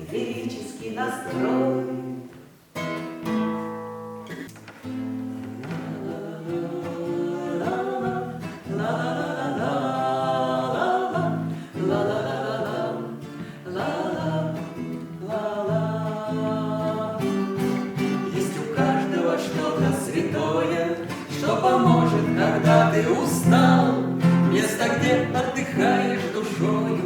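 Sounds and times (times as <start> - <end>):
voices singing wordless melody: 0.0 - 2.6, 5.3 - 27.0
acoustic guitar playing: 0.0 - 27.0.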